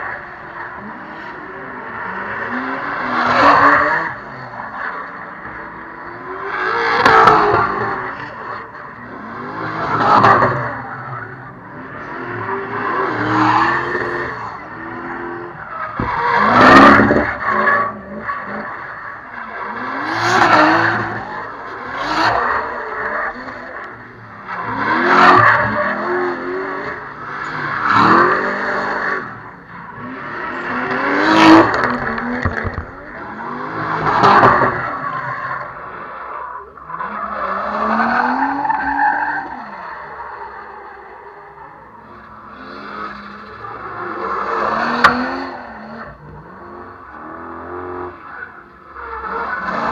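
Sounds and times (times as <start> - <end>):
car engines revving hard: 0.0 - 49.9.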